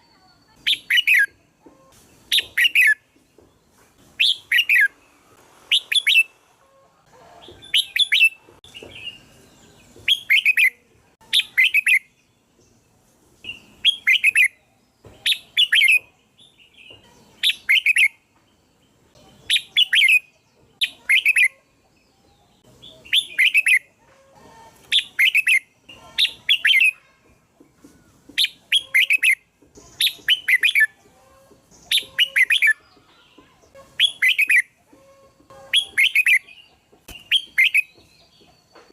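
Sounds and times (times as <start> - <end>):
bulbul song: 0.0 - 12.8, 13.4 - 27.4, 28.1 - 38.9.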